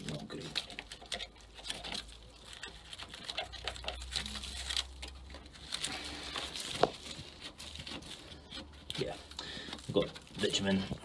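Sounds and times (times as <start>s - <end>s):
hand tool scraping mud: 0.0s - 11.0s
small clicks and rustles: 0.0s - 11.0s.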